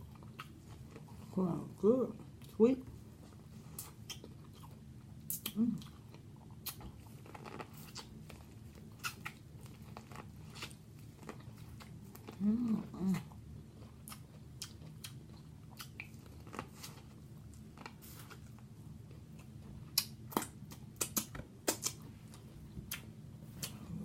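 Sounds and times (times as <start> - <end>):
chewing and lip smacks: 0.0 - 1.3, 3.6 - 23.9.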